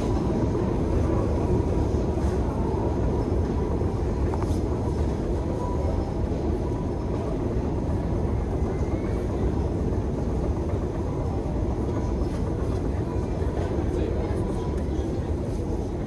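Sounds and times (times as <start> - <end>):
escalator rumble: 0.0 - 16.0.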